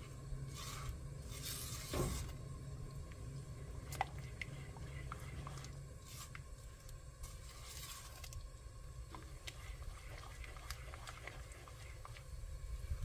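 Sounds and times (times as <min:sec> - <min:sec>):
low hum: 0:00.0 - 0:13.0
syrup swishing in a pot: 0:00.0 - 0:13.0.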